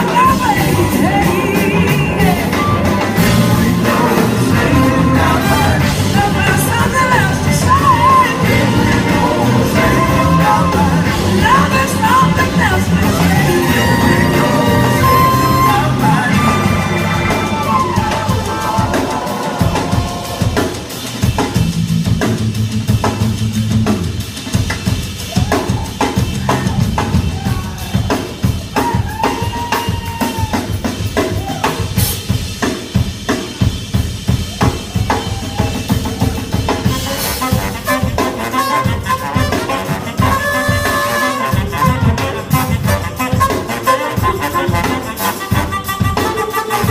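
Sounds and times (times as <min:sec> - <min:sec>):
drum kit hits: 0:00.0 - 0:45.0
live band music: 0:00.0 - 0:46.9.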